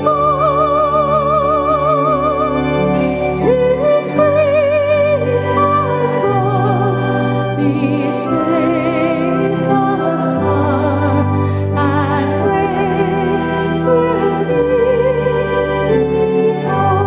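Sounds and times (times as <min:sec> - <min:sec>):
person singing a hymn: 0:00.0 - 0:17.0
sustained accompaniment chords: 0:00.0 - 0:17.0.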